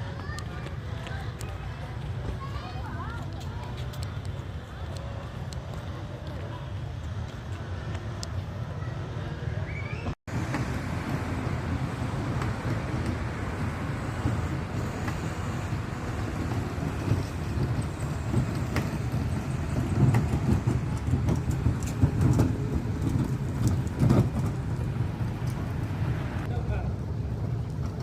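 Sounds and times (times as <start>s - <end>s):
rumble of passing vehicles: 0.0s - 28.0s.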